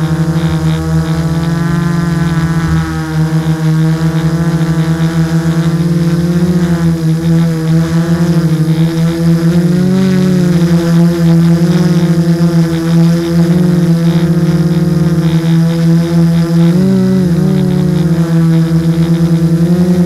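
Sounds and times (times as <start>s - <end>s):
drone motors droning: 0.0s - 20.0s.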